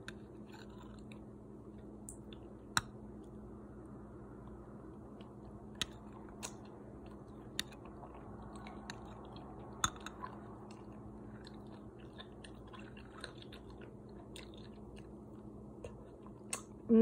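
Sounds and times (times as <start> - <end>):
person chewing: 0.0 - 3.4, 4.4 - 16.8
low hum: 0.0 - 17.0.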